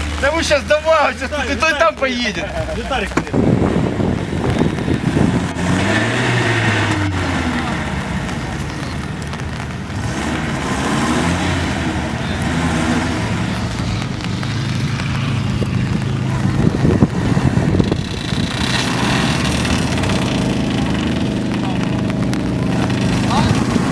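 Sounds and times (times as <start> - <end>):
vehicle engine running under load: 0.0 - 23.9.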